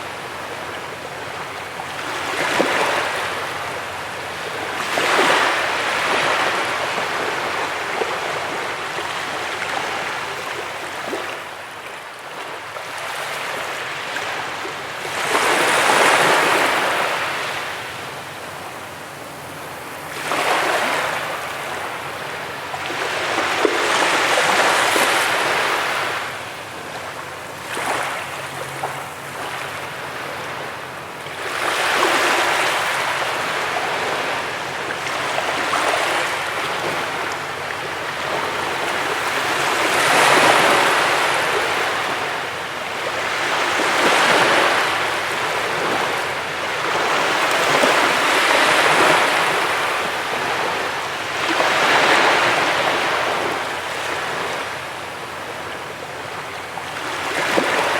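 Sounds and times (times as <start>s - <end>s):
ocean surf breaking on beach: 0.0s - 57.9s.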